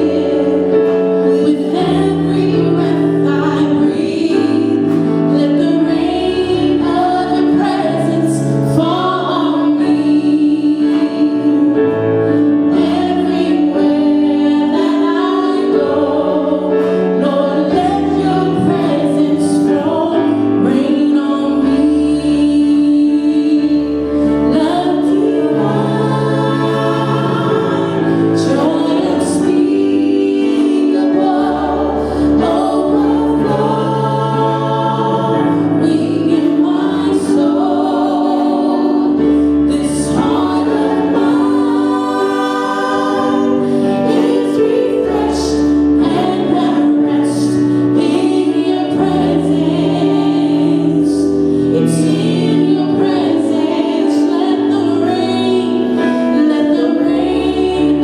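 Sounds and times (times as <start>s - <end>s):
choir singing worship song: 0.0s - 58.0s
instrumental backing: 0.0s - 58.0s.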